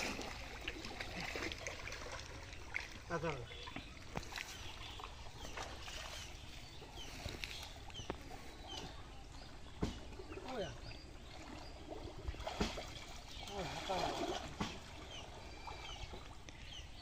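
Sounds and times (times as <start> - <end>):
water sloshing and trickling: 0.0 - 17.0.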